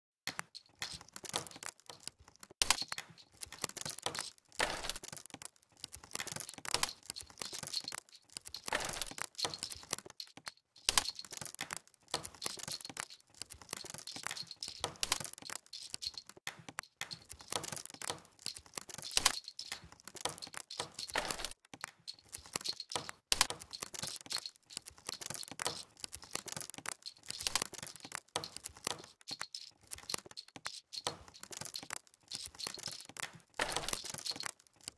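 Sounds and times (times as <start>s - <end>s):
fire crackling and popping: 0.3s - 34.9s.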